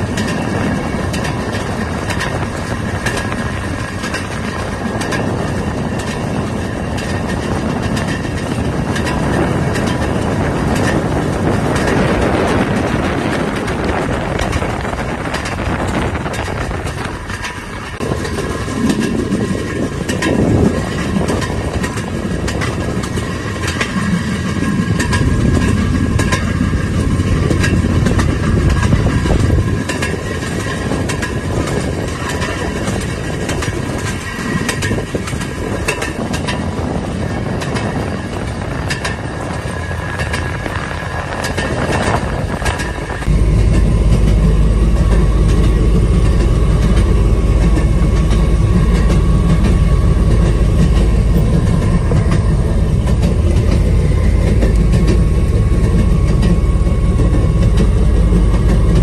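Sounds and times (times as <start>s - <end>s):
rail vehicle running on track: 0.0s - 59.0s.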